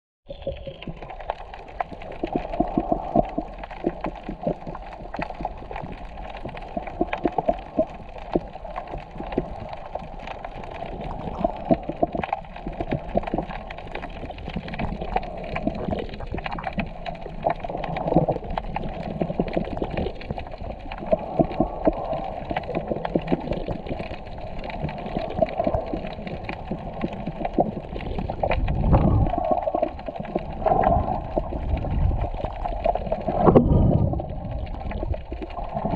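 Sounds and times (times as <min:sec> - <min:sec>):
crackle of small clicks: 0:00.3 - 0:35.9
underwater seawater moving: 0:00.3 - 0:35.9.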